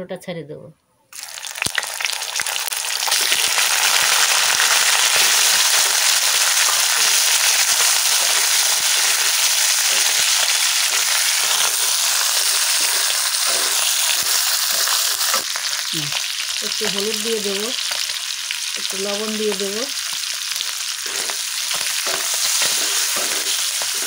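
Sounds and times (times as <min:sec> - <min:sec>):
meat sizzling in hot oil: 0:01.1 - 0:24.0.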